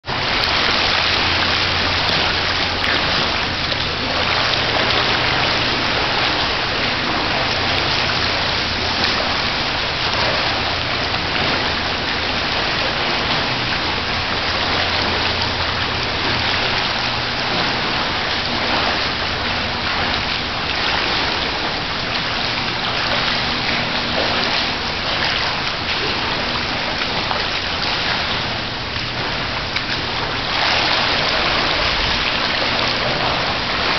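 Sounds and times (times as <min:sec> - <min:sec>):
low steady hum: 0:00.0 - 0:33.9
pool water splashing from swimming: 0:00.0 - 0:33.9.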